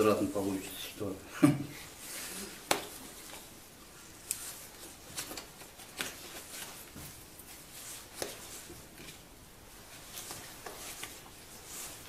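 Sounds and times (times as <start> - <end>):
willow rods rustling and scraping: 1.8 - 12.0.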